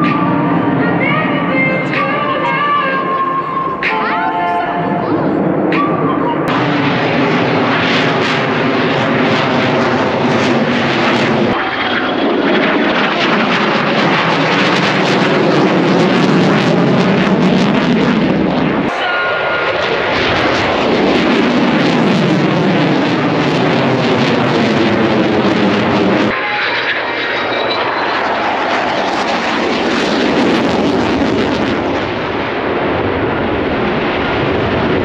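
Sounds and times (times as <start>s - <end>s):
jet engine roar overhead: 0.0s - 35.0s.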